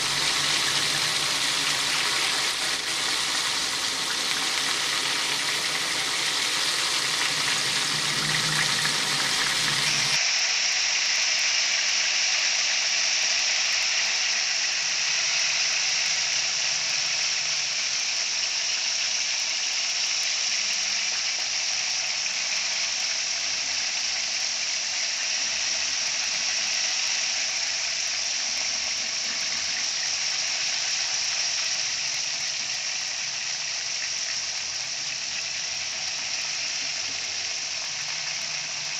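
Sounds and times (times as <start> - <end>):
deep-frying sizzle in oil: 0.0 - 38.9.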